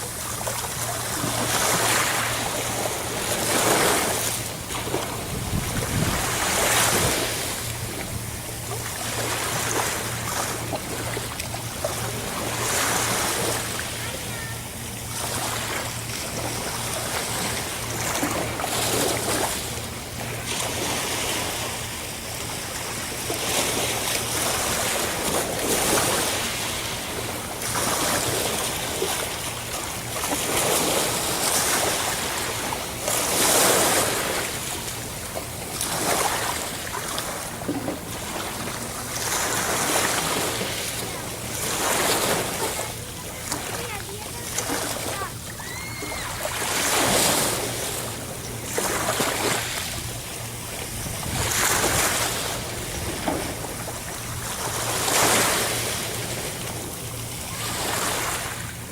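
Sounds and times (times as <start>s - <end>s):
steady low hum: 0.0s - 58.9s
waves breaking: 0.0s - 58.9s.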